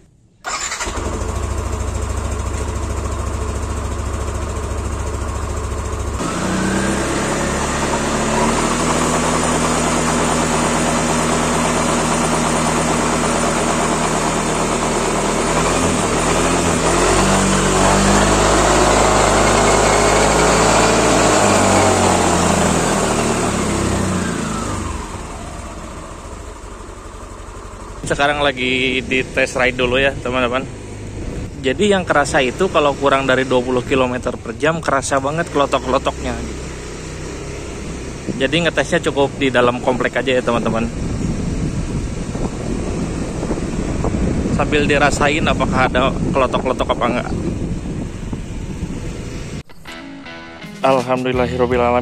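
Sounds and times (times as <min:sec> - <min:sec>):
scooter engine idling and revving: 0:00.4 - 0:49.7.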